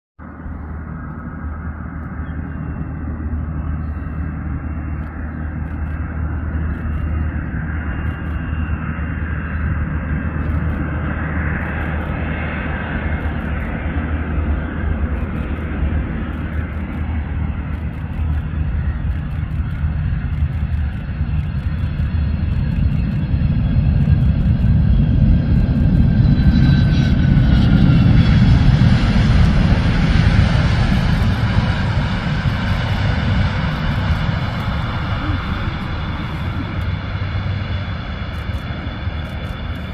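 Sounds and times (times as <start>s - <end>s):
jet engines rumbling and whining: 0.2s - 39.9s.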